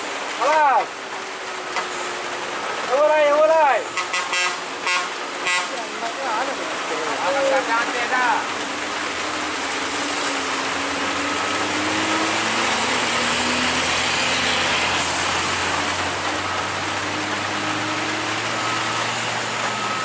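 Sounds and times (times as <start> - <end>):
rain hissing: 0.0 - 20.0
truck diesel engine labouring: 0.0 - 20.0.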